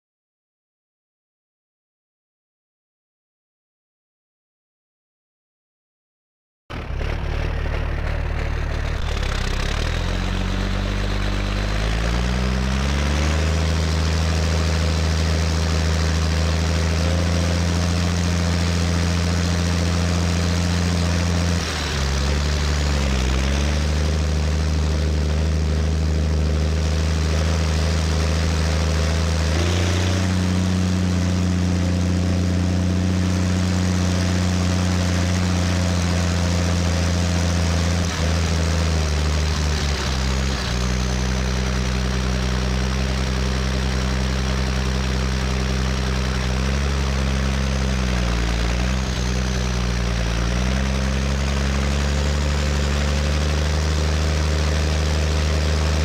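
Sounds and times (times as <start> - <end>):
tractor diesel engine running: 6.7 - 56.0.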